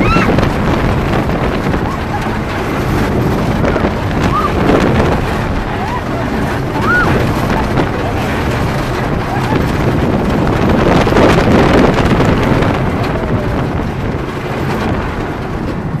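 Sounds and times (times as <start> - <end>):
roller coaster train on track: 0.0 - 16.0
wind on microphone: 0.0 - 16.0.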